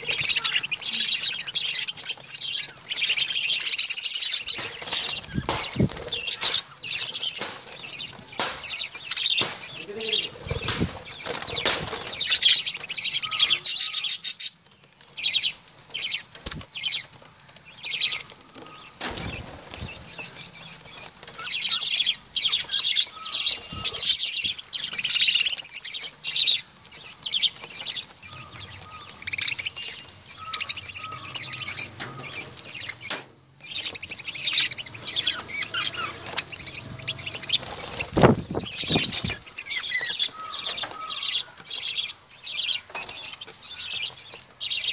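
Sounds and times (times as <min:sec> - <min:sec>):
lovebirds chattering: 0:00.0 - 0:44.9.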